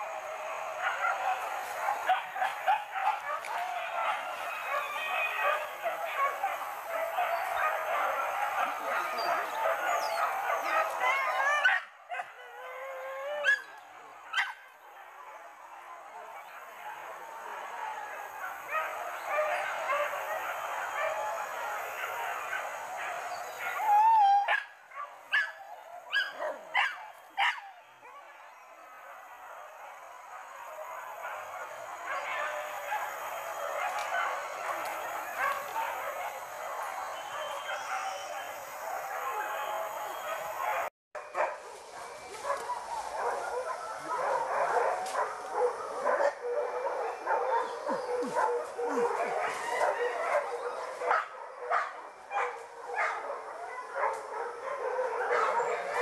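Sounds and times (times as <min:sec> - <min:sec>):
dogs baying and yelping: 0:00.0 - 0:41.5, 0:42.4 - 0:56.0.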